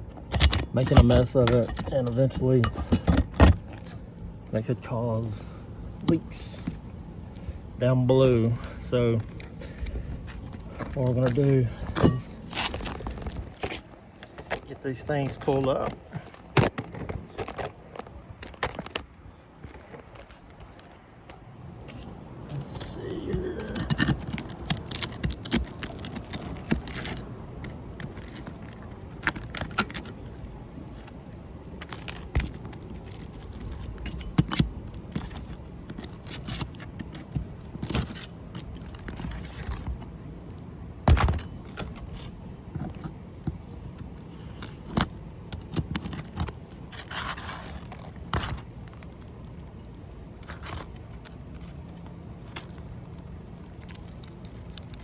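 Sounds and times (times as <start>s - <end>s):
shingles scraping: 8.1s - 55.0s.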